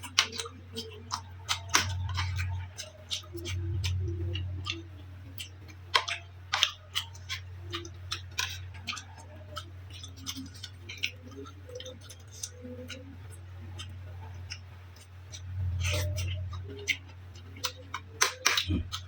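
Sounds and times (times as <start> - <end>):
low hum: 0.0 - 19.0
person chewing: 0.0 - 19.0.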